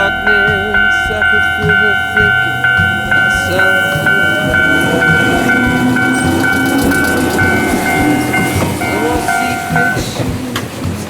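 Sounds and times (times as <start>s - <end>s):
electric train on rails: 0.0s - 11.0s
level crossing warning bell: 0.0s - 11.0s.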